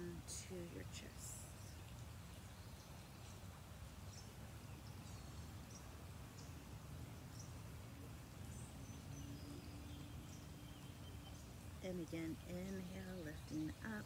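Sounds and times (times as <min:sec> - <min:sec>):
birds chirping: 0:00.0 - 0:14.0
low background rumble: 0:00.0 - 0:14.0.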